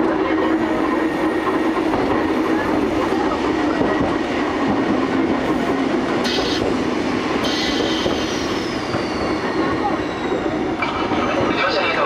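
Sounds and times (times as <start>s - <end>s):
electric railcar running on rails: 0.0s - 12.0s.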